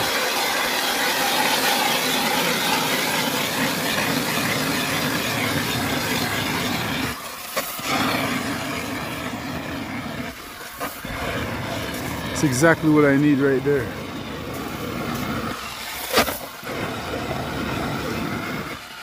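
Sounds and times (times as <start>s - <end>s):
ice auger drilling through ice: 0.0s - 19.0s.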